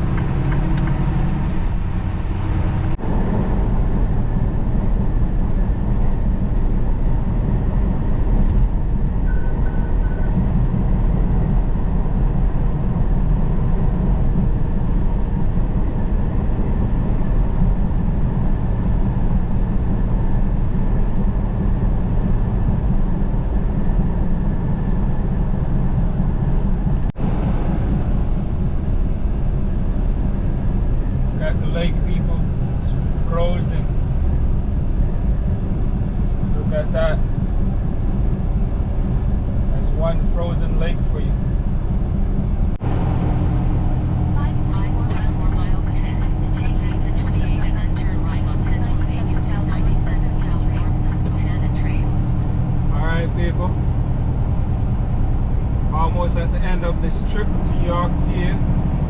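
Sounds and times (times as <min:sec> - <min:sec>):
diesel truck engine rumble: 0:00.0 - 0:59.0
road noise: 0:00.0 - 0:59.0.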